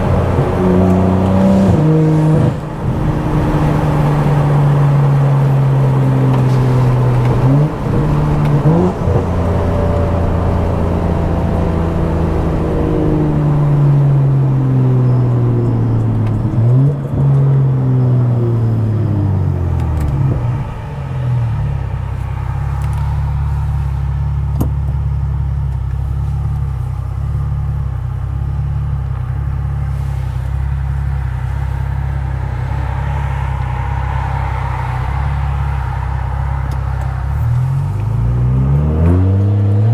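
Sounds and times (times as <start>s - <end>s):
car engine idling: 0.0s - 39.9s
loud car exhaust revving: 0.0s - 39.9s.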